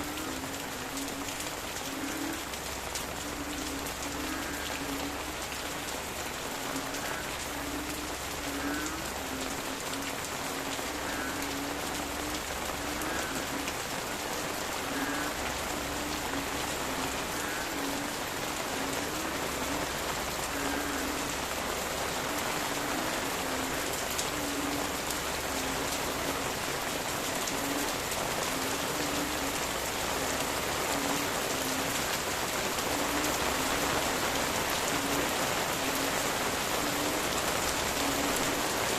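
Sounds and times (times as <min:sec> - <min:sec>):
frogs croaking: 0:00.0 - 0:38.9
rain pattering on leaves: 0:00.0 - 0:38.9.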